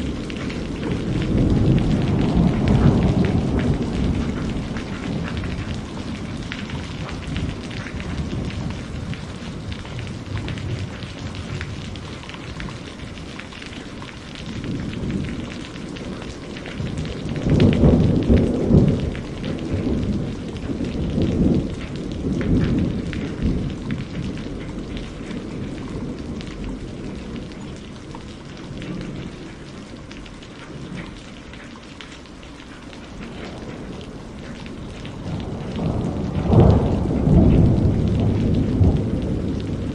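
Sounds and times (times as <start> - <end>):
thunder rumbling: 0.0 - 30.0, 32.3 - 39.9
steady rain falling: 0.0 - 39.9.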